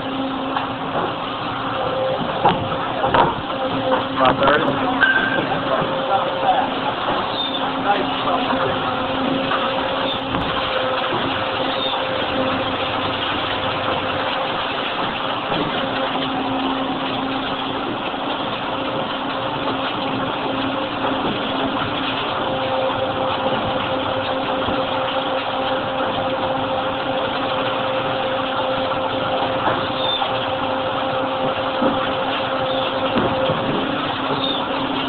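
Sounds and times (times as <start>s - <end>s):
hydraulic pump humming: 0.0s - 35.0s.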